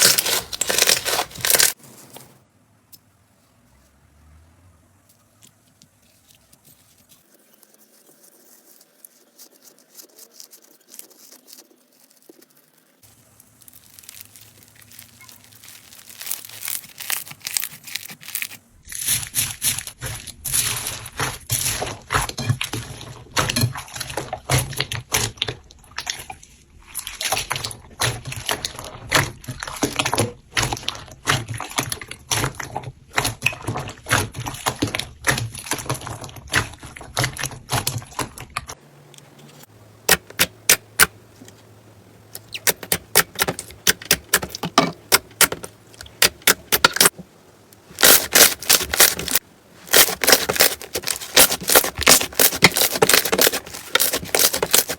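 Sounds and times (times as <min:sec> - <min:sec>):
slime crackling and squelching: 0:00.0 - 0:02.2, 0:06.0 - 0:38.8, 0:42.3 - 0:54.9.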